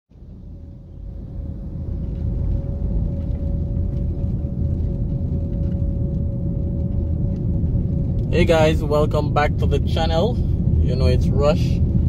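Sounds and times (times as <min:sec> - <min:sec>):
road rumble and engine inside car: 0:00.1 - 0:12.0.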